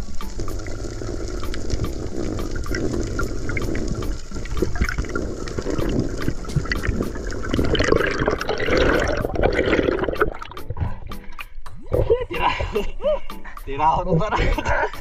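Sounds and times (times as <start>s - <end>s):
water sloshing and gurgling: 0.0s - 12.8s.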